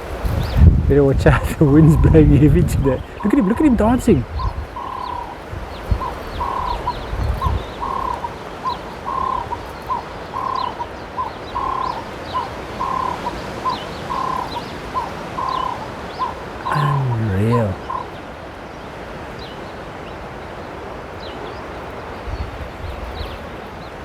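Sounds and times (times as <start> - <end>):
wind buffeting microphone: 0.0 - 17.2, 21.6 - 24.0
small birds chirping: 0.2 - 19.8.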